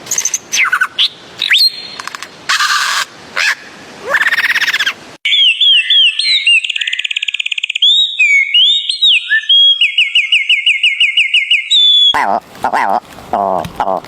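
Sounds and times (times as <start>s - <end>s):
harsh screechy bird calls: 0.1s - 12.2s.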